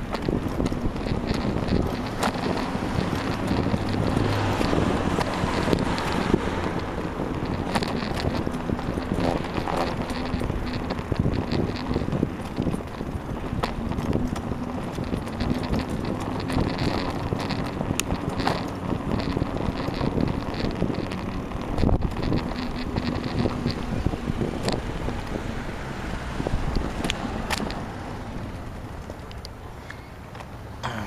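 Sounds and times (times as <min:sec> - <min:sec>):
wind buffeting microphone: 0:00.0 - 0:30.5
bicycle rattles and clicks: 0:00.0 - 0:31.0.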